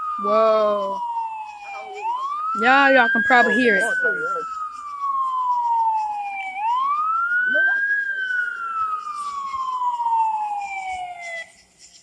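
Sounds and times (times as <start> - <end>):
fire truck siren wailing: 0.0 - 11.6.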